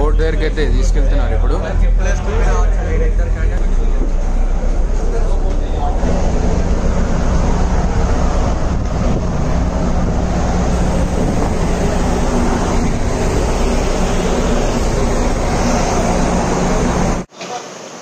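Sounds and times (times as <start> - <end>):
vehicle engine running: 0.0 - 17.3.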